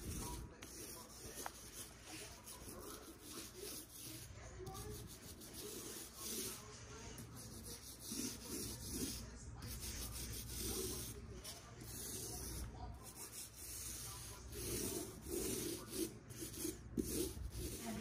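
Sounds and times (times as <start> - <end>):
paint roller rubbing: 0.0 - 18.0.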